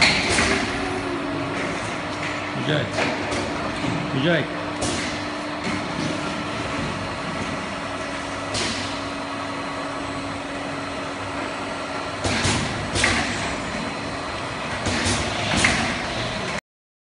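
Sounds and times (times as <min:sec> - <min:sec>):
bottling machine humming: 0:00.0 - 0:16.6.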